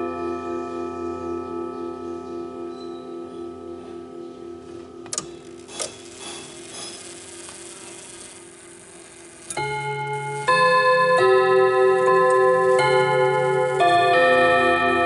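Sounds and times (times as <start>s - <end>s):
clock chime on gong rods: 0.0s - 7.1s, 9.4s - 15.0s.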